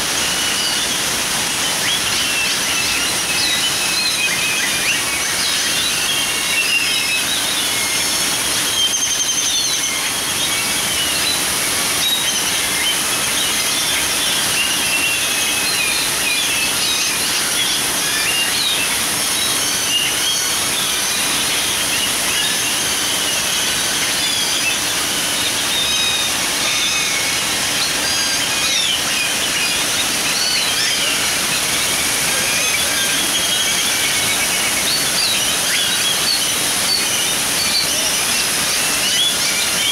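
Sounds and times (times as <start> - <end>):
waterfalls splashing into pond: 0.0 - 39.9.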